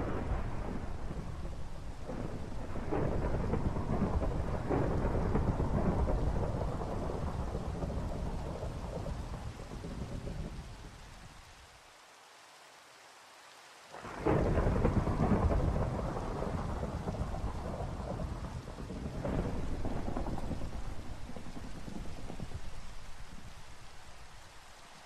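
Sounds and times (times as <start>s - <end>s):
low rolling thunder: 0.0s - 10.9s, 14.0s - 24.4s
steady rain: 0.0s - 25.0s.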